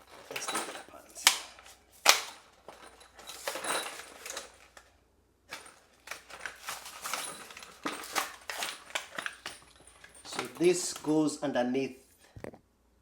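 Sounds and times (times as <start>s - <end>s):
plastic packaging rustling: 0.0s - 4.9s, 5.5s - 11.4s.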